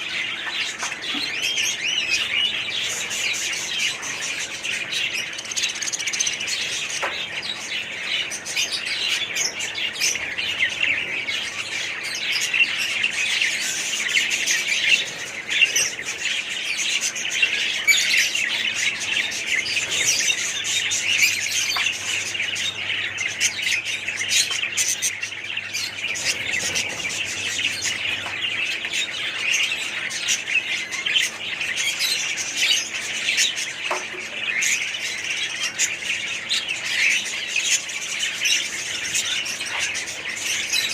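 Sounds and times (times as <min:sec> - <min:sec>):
parrots chattering: 0:00.0 - 0:40.9.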